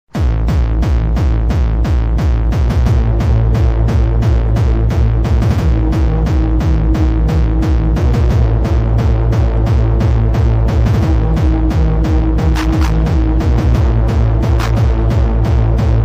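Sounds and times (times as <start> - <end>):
droning bass: 0.1 - 16.0
fast kick drum: 0.1 - 16.0.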